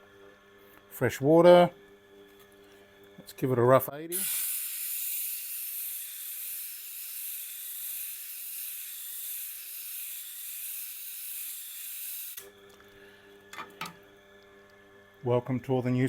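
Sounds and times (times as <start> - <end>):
faint motor hum: 0.0 - 16.0.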